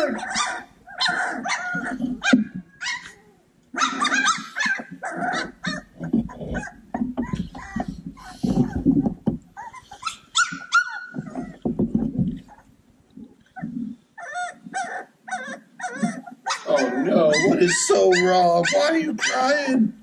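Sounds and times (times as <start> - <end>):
puppies crying: 0.0 - 12.7, 13.4 - 19.8
puppies growling: 0.0 - 19.7
puppies yipping and whimpering: 0.0 - 19.7.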